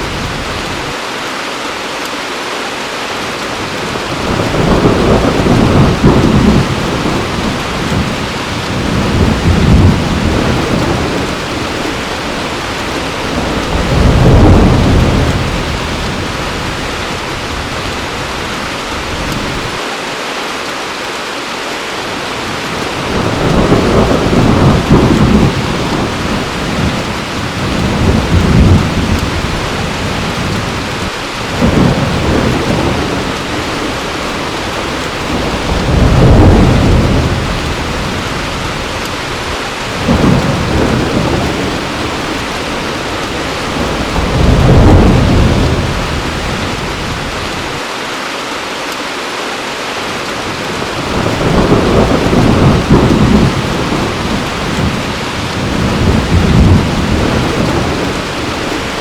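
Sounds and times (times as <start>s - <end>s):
heavy rain: 0.0s - 59.0s
thunder rumbling: 3.6s - 19.8s, 22.4s - 47.8s, 50.4s - 59.0s.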